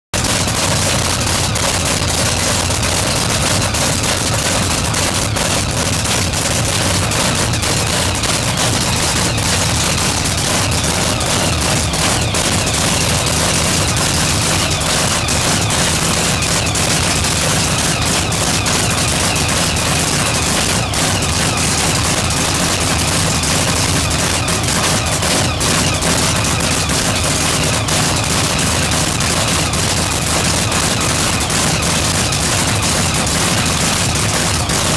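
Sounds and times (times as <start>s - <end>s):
loud crackling engine running: 0.1s - 34.9s.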